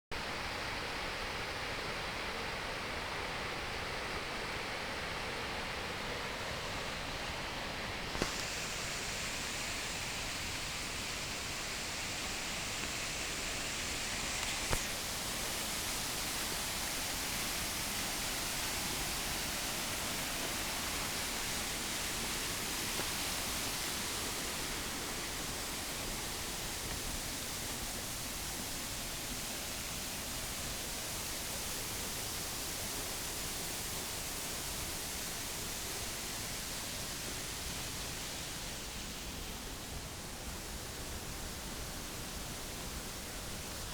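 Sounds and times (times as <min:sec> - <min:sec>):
waterfall rushing: 0:07.8 - 0:43.9.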